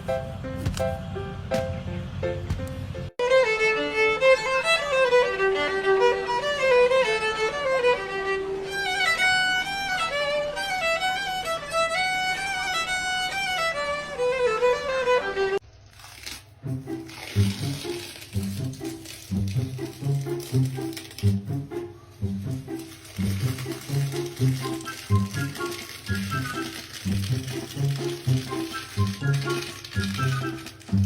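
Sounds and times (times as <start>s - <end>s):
fast violin melody: 3.2s - 15.6s, 17.4s - 31.0s.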